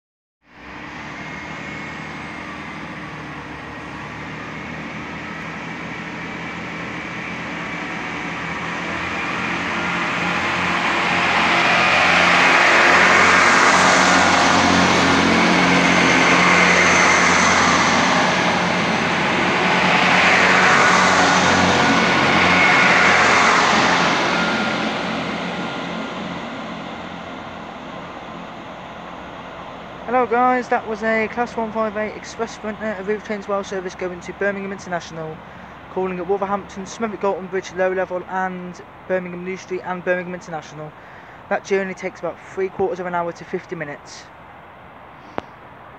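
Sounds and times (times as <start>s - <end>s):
diesel train engines accelerating: 0.5s - 45.9s.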